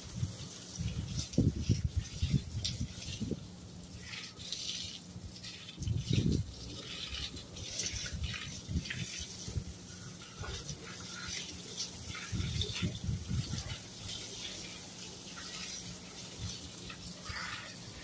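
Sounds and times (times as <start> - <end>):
hose water spraying on shrubs: 0.0 - 18.0.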